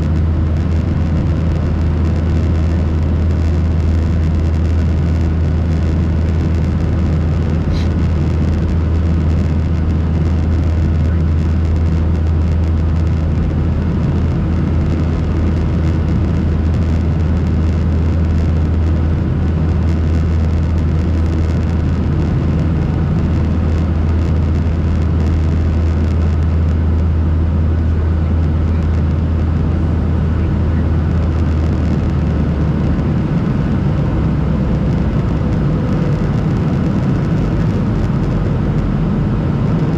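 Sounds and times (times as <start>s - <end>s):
aircraft engine drone: 0.0s - 39.9s
cabin airflow rushing: 0.0s - 39.9s.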